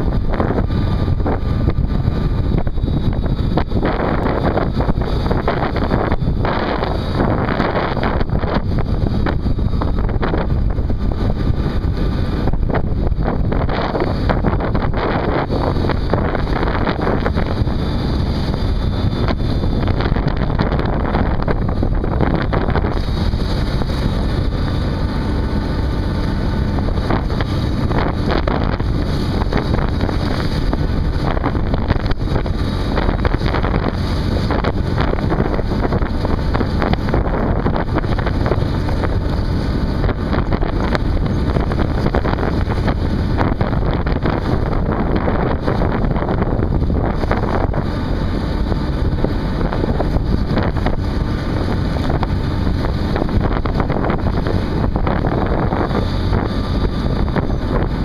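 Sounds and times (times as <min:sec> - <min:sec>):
low ship rumble: 0:00.0 - 0:58.0
wind buffeting microphone: 0:00.0 - 0:58.0.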